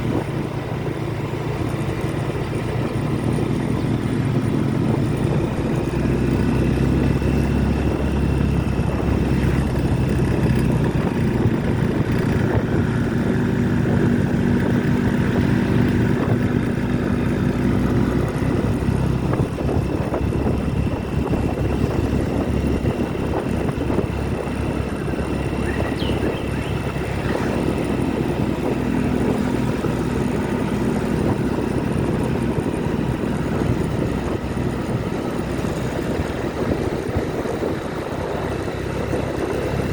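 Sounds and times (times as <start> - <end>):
motorcycle engine running: 0.0 - 39.9
wind and road rush: 0.0 - 39.9.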